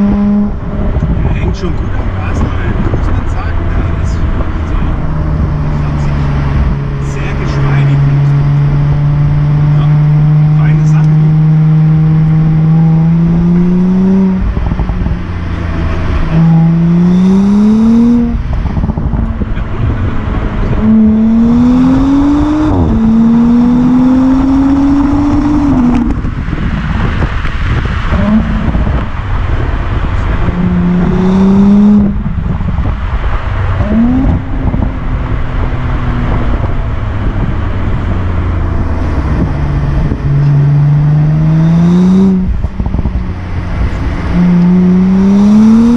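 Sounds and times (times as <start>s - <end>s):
car engine accelerating: 0.0s - 45.9s
road and wind noise: 0.0s - 45.9s.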